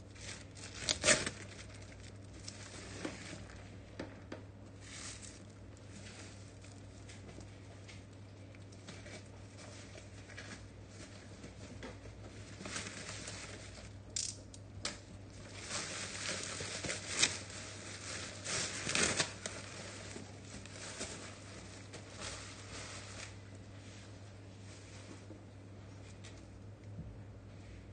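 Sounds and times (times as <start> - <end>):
plastic bag rustling and crinkling: 0.0 - 3.9, 4.7 - 14.0, 15.3 - 25.3.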